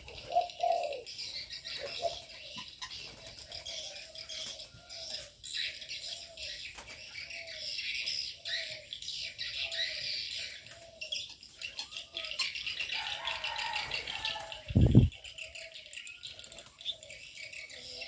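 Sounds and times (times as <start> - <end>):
birds chirping and twittering: 0.0 - 18.0
doves cooing: 0.0 - 18.0.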